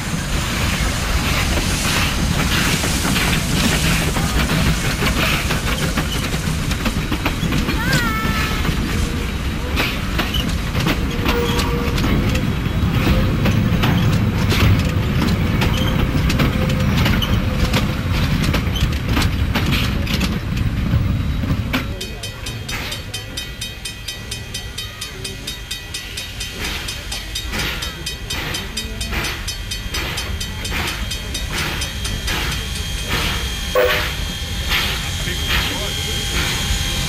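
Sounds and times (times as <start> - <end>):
steam locomotive hissing: 0.0 - 37.0
train rolling past: 0.0 - 37.0
wheels clicking over rail joints: 1.0 - 33.4.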